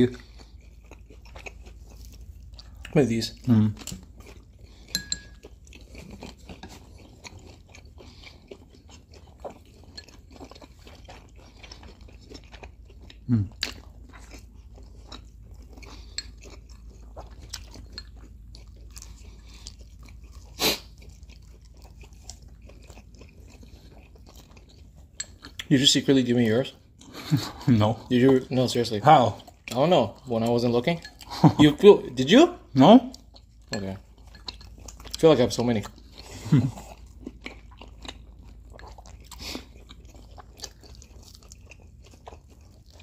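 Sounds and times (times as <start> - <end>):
close chewing and crunching: 0.0 - 43.0.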